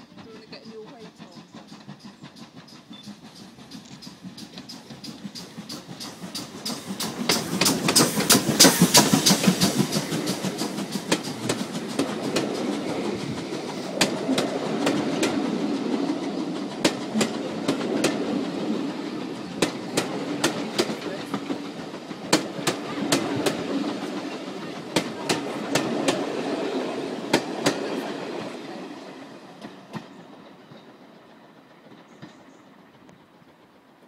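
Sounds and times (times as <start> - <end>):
steam locomotive passing: 0.0 - 34.0
wheels clacking over rail joints: 0.0 - 34.0.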